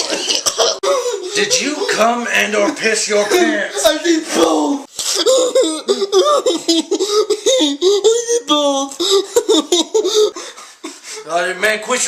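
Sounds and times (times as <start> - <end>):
person giggling: 0.0 - 4.0, 5.2 - 11.0.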